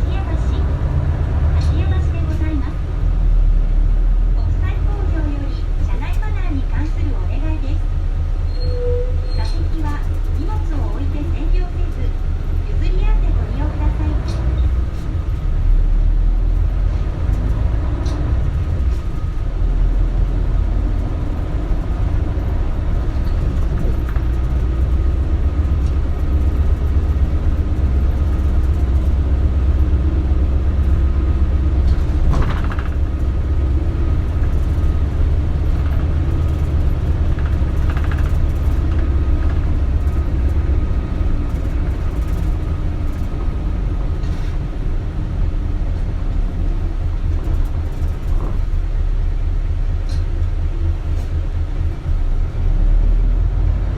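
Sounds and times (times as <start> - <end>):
bus engine rumble: 0.0 - 53.9
road noise: 0.0 - 53.9.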